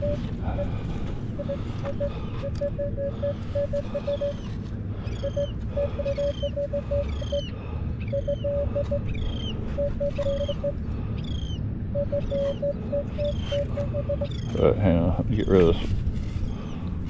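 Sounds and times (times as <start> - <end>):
metal detector beeping: 0.0 - 14.6.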